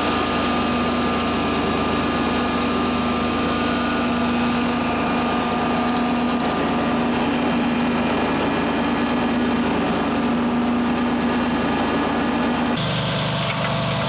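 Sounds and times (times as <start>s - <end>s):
vacuum excavator humming: 0.0s - 14.0s.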